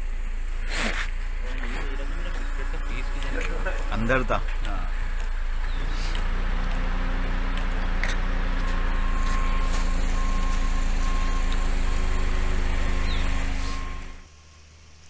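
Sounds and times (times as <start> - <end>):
motor humming: 0.0 - 14.3.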